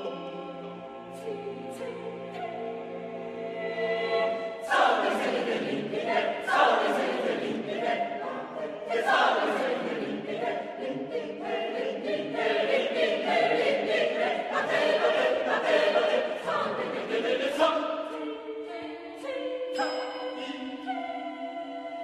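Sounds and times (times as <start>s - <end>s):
mixed chorus singing: 0.0s - 22.0s.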